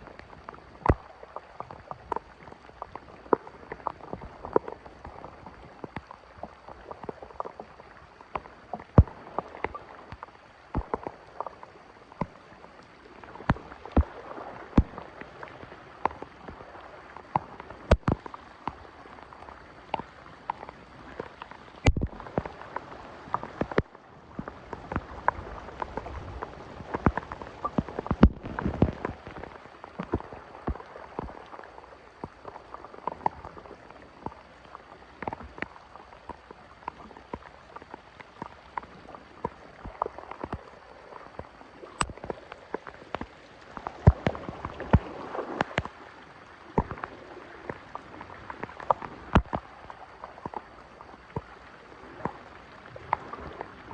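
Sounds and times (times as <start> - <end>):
rain falling on water: 0.0 - 53.9.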